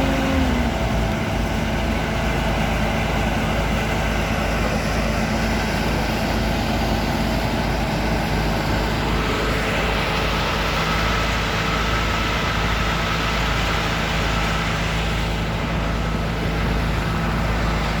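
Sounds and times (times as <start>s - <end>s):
road roller engine rumbling: 0.0s - 18.0s.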